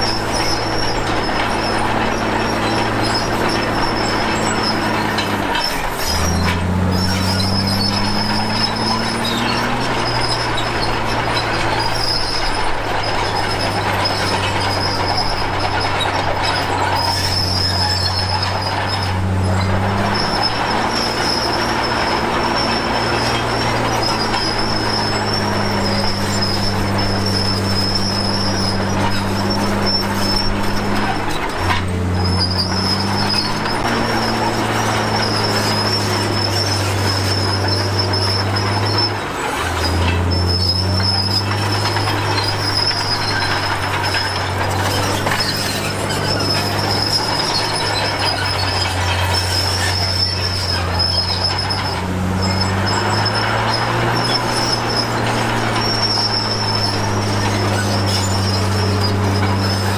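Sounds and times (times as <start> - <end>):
diesel engine drone: 0.0 - 59.9
steel tracks squealing: 0.0 - 59.9.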